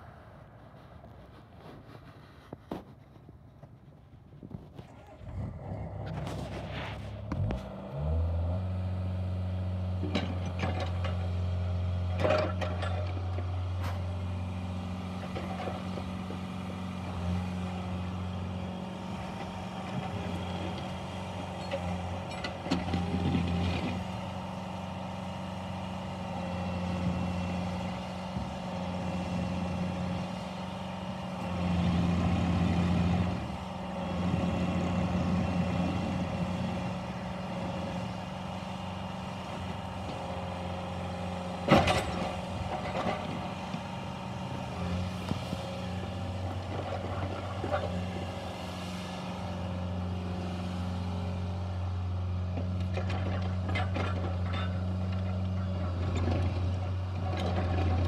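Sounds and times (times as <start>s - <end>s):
diesel excavator engine running: 0.0s - 58.0s.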